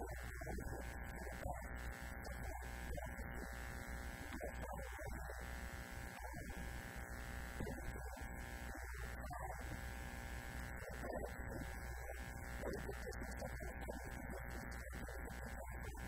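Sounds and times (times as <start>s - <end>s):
electrical hum and buzz: 0.0s - 16.0s.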